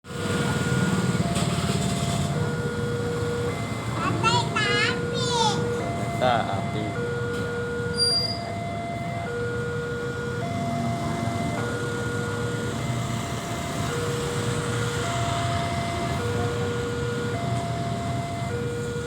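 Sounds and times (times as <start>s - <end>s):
traffic rumble: 0.1s - 19.0s
two-tone crossing alarm chime: 0.1s - 19.0s.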